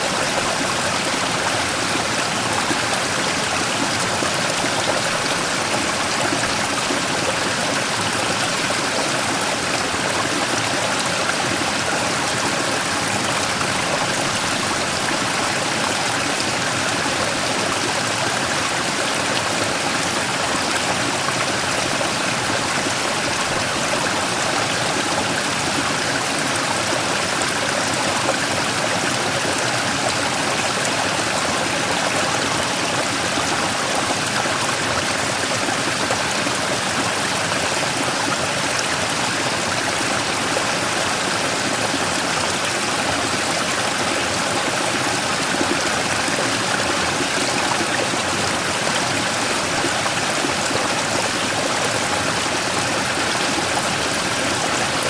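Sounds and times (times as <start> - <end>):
stream rushing over rock: 0.0 - 55.0.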